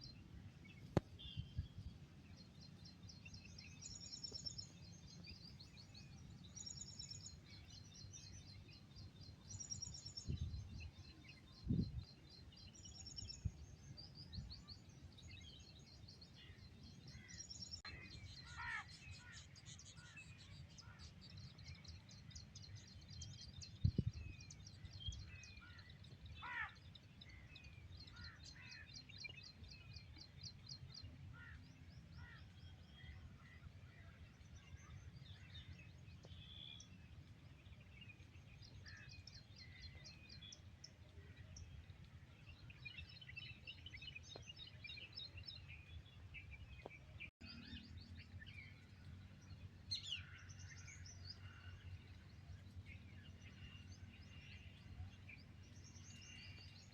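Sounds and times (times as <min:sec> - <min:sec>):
small birds chirping and trilling: 0:00.0 - 0:56.9.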